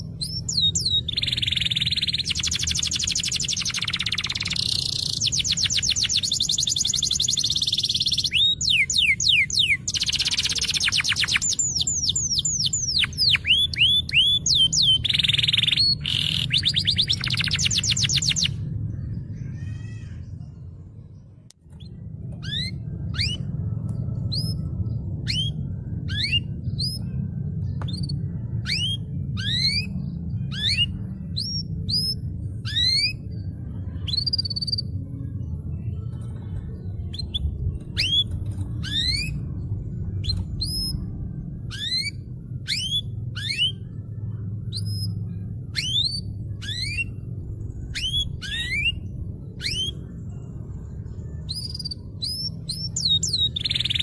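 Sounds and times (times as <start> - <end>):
canary singing: 0.0 - 20.6, 21.7 - 35.6, 36.2 - 54.0.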